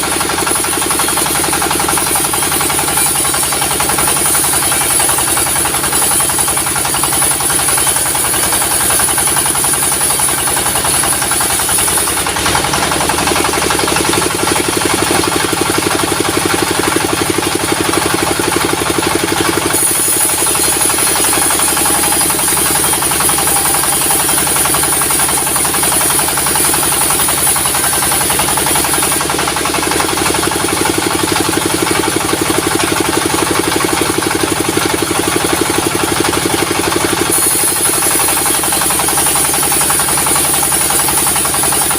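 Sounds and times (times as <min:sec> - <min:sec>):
sawmill engine with knocking pulse: 0:00.0 - 0:41.9.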